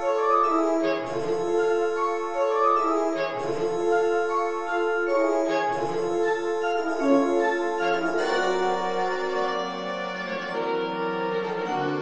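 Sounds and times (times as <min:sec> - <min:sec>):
classical background music: 0:00.0 - 0:12.0.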